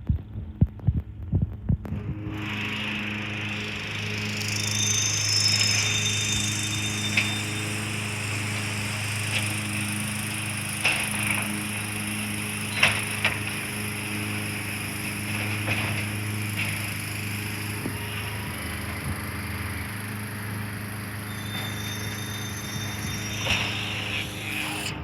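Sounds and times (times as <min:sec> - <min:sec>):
large engine droning: 0:00.0 - 0:25.0.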